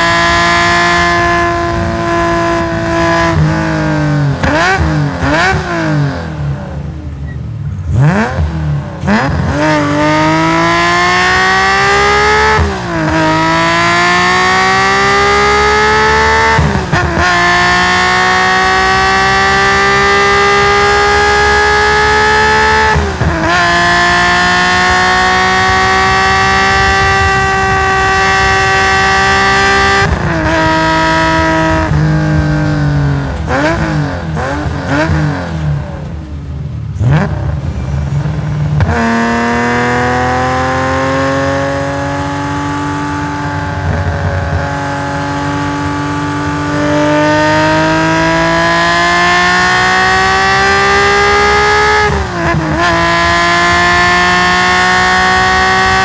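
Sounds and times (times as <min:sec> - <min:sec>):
race car engine revving: 0:00.0 - 0:56.0
throttle blips on downshifts: 0:00.0 - 0:56.0.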